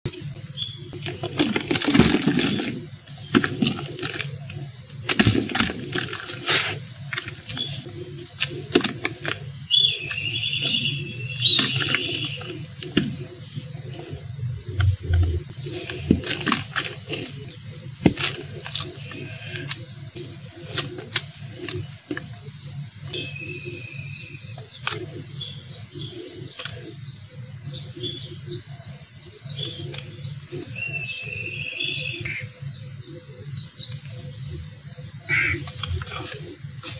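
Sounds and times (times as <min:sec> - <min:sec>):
birds chirping: 0:00.1 - 0:36.9.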